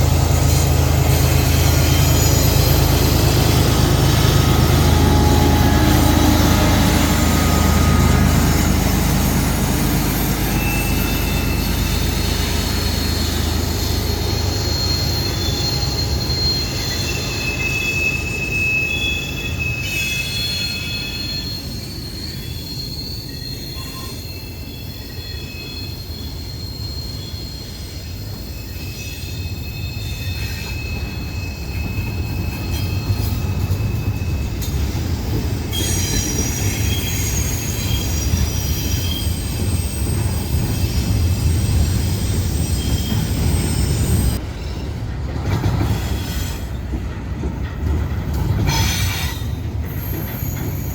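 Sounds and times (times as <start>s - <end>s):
wheel flanges squealing: 0.0s - 45.0s
train cars rumbling past: 0.0s - 50.9s.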